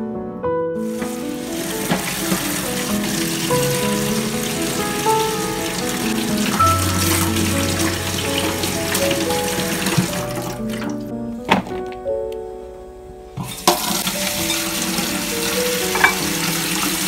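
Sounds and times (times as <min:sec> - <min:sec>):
background music: 0:00.0 - 0:17.0
tap water running into sink: 0:00.8 - 0:11.1, 0:13.4 - 0:17.0.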